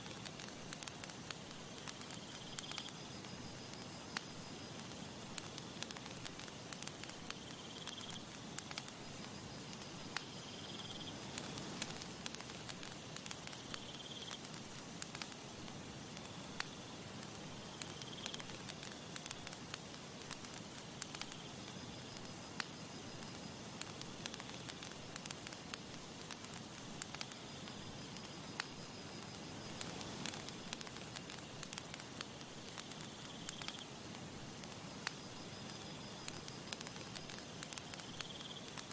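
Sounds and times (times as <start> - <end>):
campfire crackling and popping: 0.0 - 38.9
insects chirring: 0.0 - 38.9.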